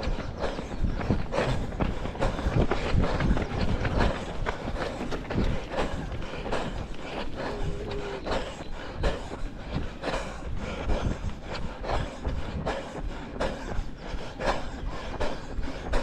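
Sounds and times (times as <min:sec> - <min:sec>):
running footsteps thudding: 0:00.0 - 0:16.0.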